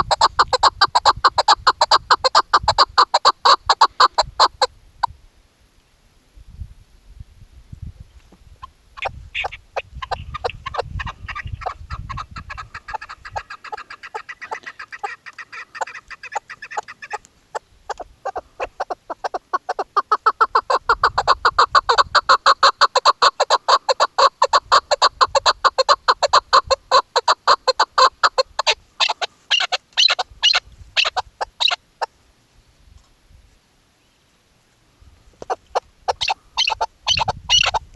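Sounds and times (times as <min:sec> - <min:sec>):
partridge calling: 0:00.0 - 0:05.1, 0:08.6 - 0:32.2, 0:35.4 - 0:37.9.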